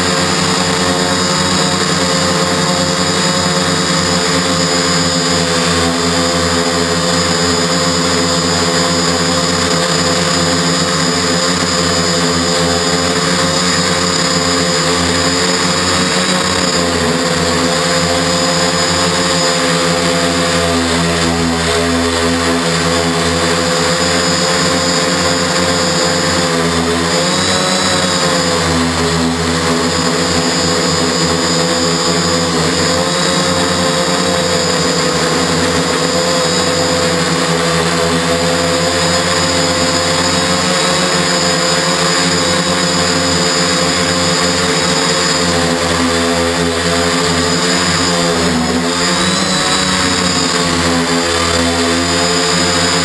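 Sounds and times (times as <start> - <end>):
drone propellers whining: 0.0 - 53.0.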